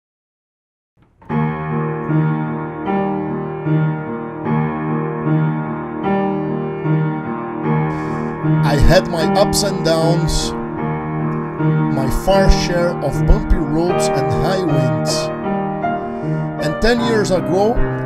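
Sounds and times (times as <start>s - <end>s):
slow gentle piano piece: 1.0s - 18.0s.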